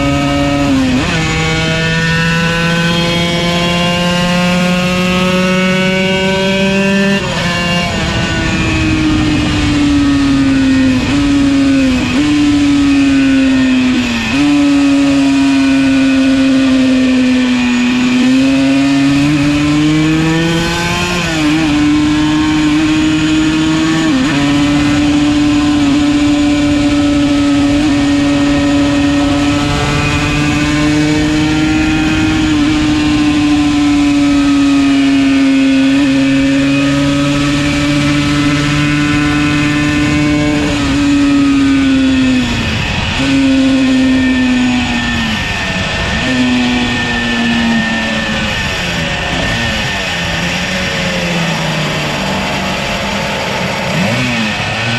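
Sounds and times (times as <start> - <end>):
motorcycle engine at high revs: 0.0 - 54.9
wind noise: 0.0 - 54.9.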